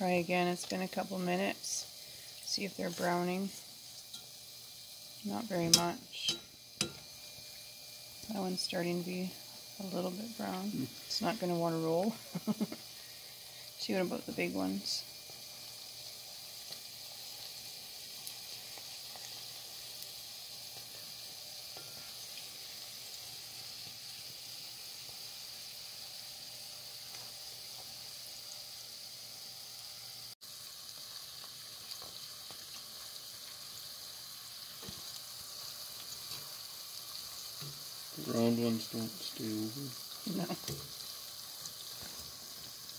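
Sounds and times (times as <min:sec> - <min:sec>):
batter deep-frying in oil: 0:00.0 - 0:42.9.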